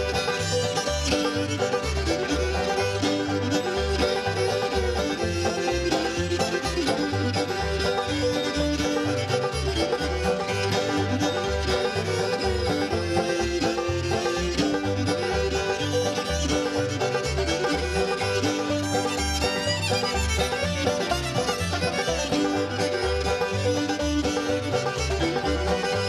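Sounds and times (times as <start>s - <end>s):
banjo: 0.0s - 26.0s
bass line: 0.0s - 26.0s
fiddle: 0.0s - 26.0s
guitar: 0.0s - 26.0s.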